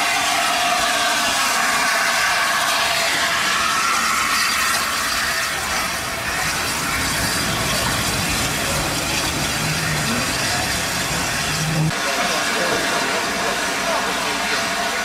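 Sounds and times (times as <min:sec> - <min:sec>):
steam locomotive hissing and rumbling: 0:00.0 - 0:15.0.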